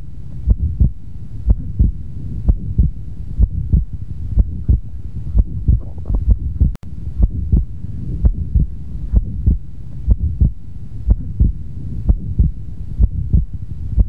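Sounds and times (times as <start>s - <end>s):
heartbeat lub-dub: 0.0s - 14.0s
low steady hum: 0.0s - 14.0s.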